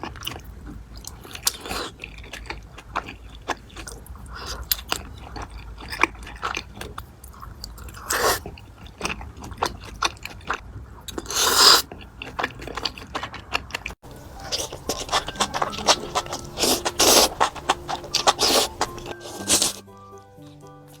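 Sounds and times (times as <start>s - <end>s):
close-up chewing and crunching: 0.0s - 21.0s.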